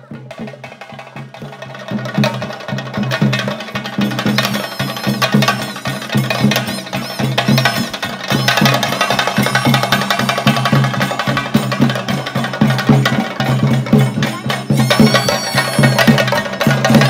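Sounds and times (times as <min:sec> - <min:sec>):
fast continuous drumming: 0:00.0 - 0:17.0
hand cymbals ringing: 0:03.2 - 0:17.0.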